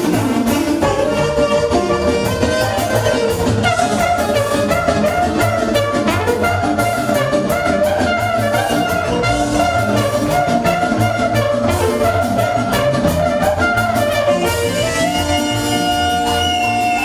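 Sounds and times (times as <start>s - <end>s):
bass line: 0.0s - 17.0s
drum beat: 0.0s - 17.0s
trumpet and saxophone melody: 0.0s - 17.0s.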